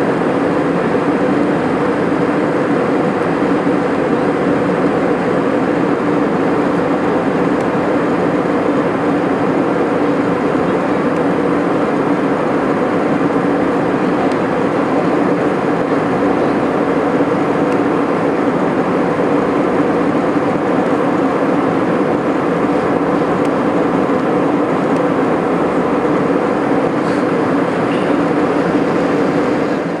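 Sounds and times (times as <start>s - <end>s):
jet cabin engine rush: 0.0s - 30.0s.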